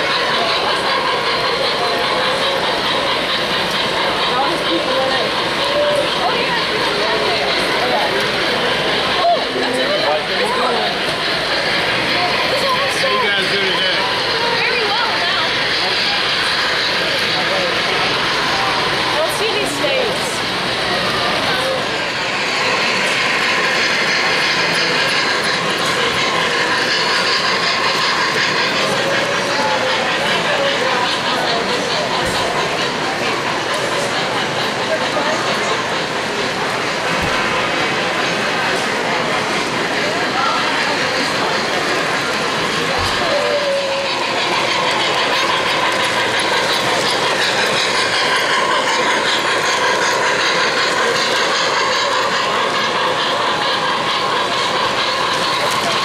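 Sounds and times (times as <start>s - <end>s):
model train rolling on track: 0.0s - 56.0s.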